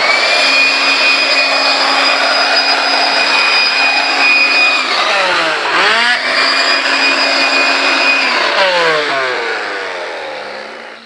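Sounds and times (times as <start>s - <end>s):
power tool motor whining: 0.0s - 11.0s.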